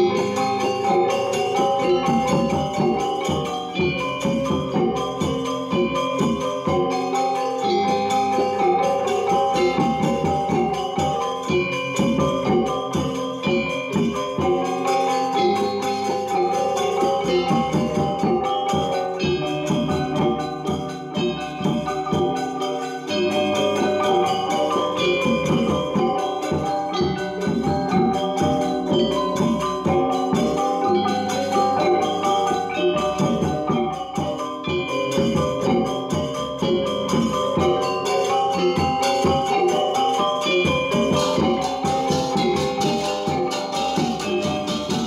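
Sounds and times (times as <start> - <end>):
gamelan playing: 0.0 - 45.0.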